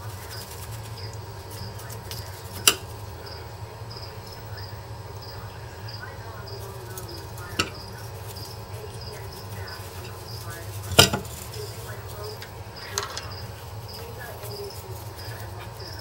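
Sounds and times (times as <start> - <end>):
cricket chirping: 0.0 - 16.0
low steady hum: 0.0 - 16.0.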